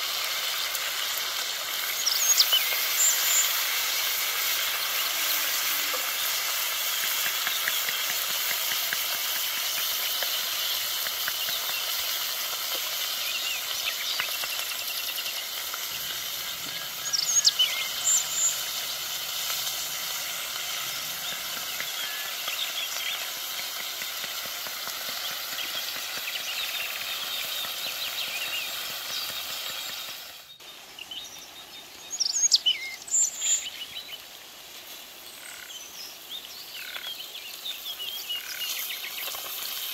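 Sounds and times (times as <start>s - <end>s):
food sizzling in oil: 0.0s - 30.9s, 32.2s - 39.9s
birds chirping: 1.7s - 34.2s.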